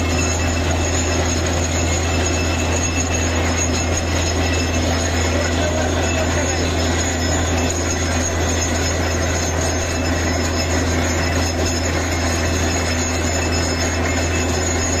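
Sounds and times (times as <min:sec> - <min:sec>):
drilling rig droning: 0:00.0 - 0:15.0.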